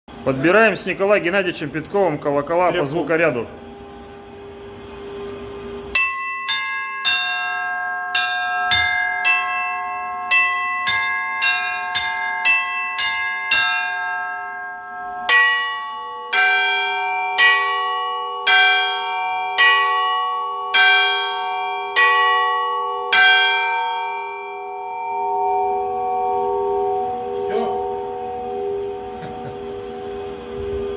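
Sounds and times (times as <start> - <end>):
bells struck at different pitches: 5.9 - 30.9.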